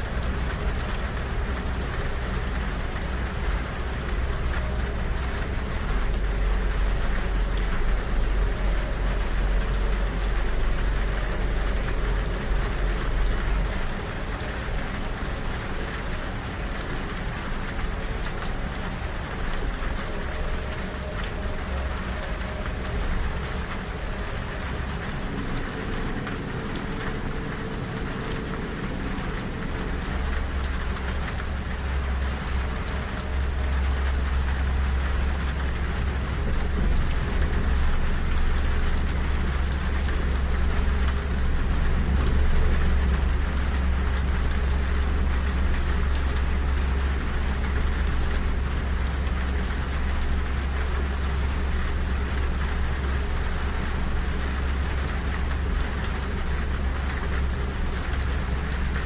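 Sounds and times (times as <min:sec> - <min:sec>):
rain on a window: 0:00.0 - 0:59.0
train rumbling: 0:00.0 - 0:59.0.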